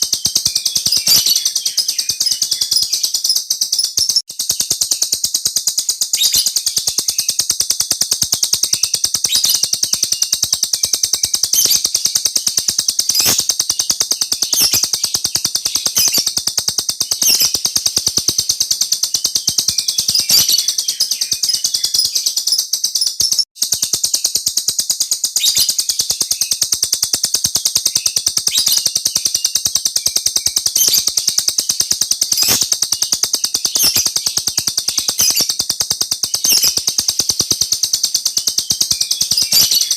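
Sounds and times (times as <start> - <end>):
small bird trilling: 0.0 - 24.4, 25.1 - 39.9.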